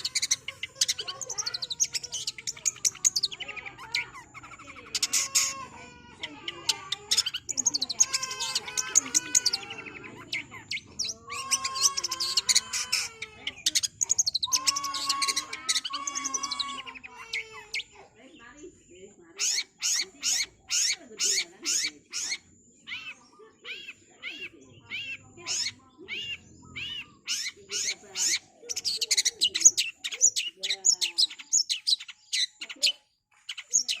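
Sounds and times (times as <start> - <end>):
shrike singing rapid chattering song: 0.0 - 34.0.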